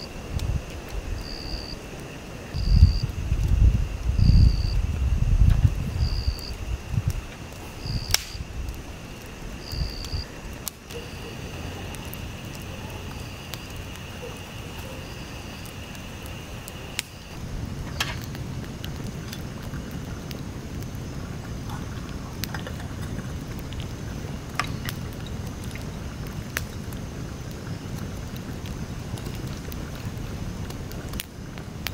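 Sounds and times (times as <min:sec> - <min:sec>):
wind rumble on microphone: 0:00.0 - 0:14.1, 0:14.8 - 0:31.9
high insect drone: 0:00.0 - 0:31.5.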